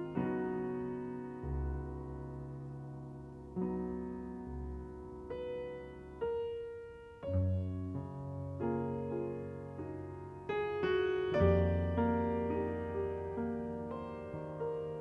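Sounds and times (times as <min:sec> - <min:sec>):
slow piano chords with melody: 0:00.0 - 0:15.0.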